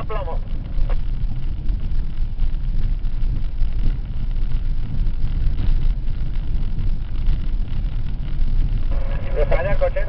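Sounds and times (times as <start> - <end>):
engine and tyre rumble in cabin: 0.0 - 10.0.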